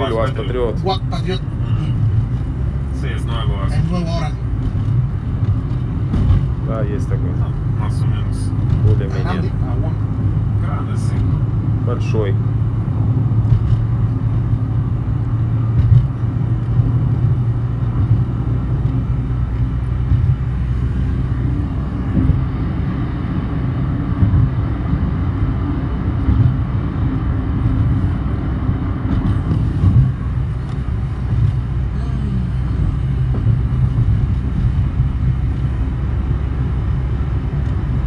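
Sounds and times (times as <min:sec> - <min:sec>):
car engine and tyres droning: 0:00.0 - 0:38.0.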